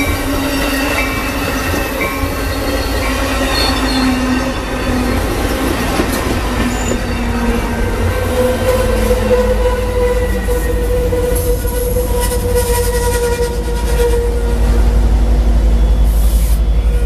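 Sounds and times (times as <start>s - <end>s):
ringing wheel squeal: 0.0s - 14.5s
diesel locomotive throbbing: 0.0s - 17.0s
train cars rumbling past: 0.0s - 17.0s.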